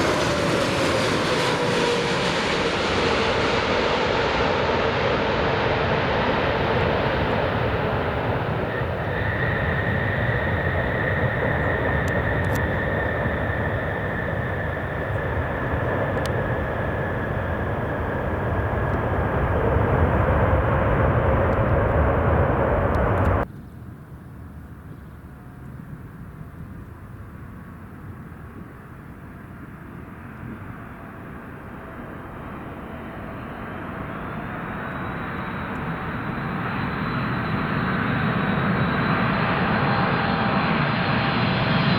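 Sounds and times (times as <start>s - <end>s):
jet engines rumbling and whining: 0.0s - 41.9s.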